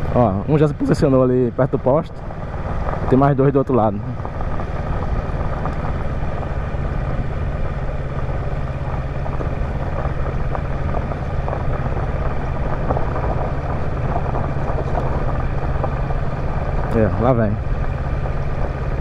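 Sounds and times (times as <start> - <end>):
motorcycle engine running: 0.0 - 19.0
tyres on gravel road: 0.0 - 19.0.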